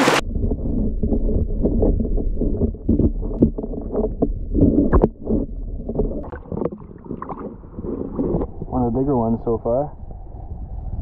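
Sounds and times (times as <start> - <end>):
muffled water sloshing and splashing: 0.0 - 11.0.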